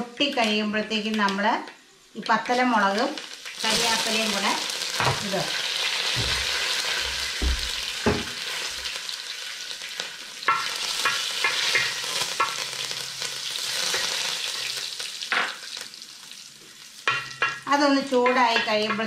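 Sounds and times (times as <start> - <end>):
spices sizzling in hot oil: 2.1 - 19.0.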